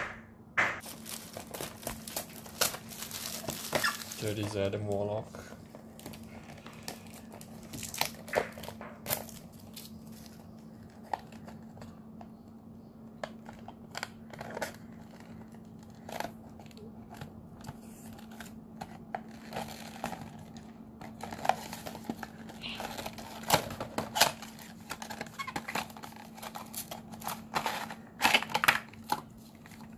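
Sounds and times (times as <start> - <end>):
faint low hum: 0.0 - 29.9
plastic wrap crinkling: 0.8 - 12.5, 13.2 - 29.9.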